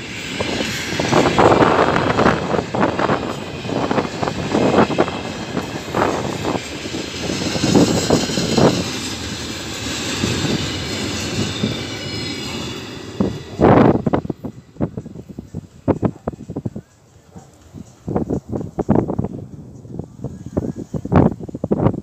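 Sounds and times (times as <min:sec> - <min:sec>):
freight train rolling rumble: 0:00.0 - 0:22.0.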